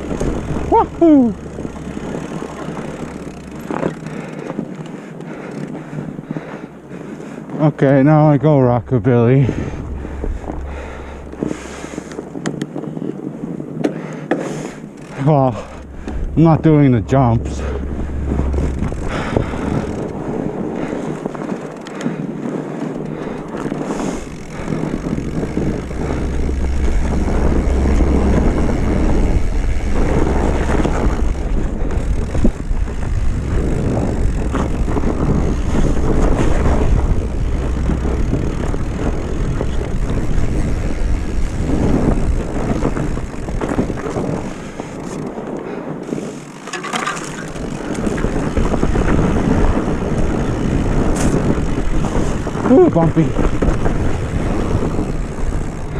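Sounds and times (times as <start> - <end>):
bike rattle over rough ground: 0.0 - 55.9
bike tyre noise: 0.0 - 55.9
wind rushing over microphone: 0.0 - 55.9.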